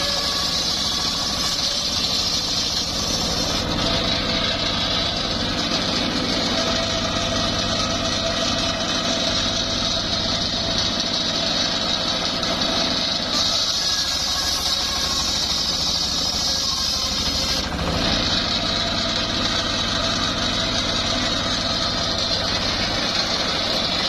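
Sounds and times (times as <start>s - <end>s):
high saw whine: 0.0s - 24.0s
sawmill engine drone: 0.0s - 24.0s.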